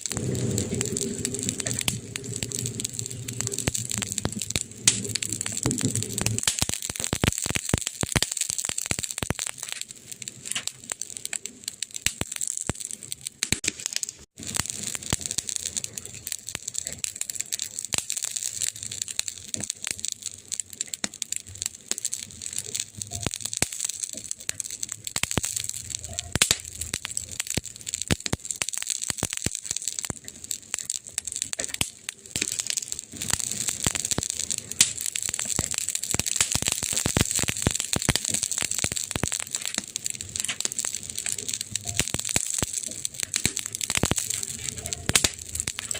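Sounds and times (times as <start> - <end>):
burning wood crackling: 0.0 - 45.9.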